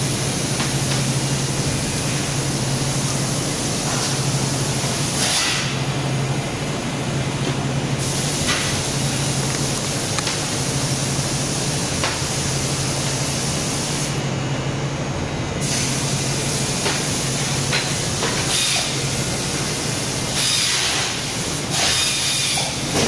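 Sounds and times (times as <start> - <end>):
washer and dryer rushing: 0.0 - 14.2, 15.6 - 23.0
machine low hum: 0.0 - 20.4.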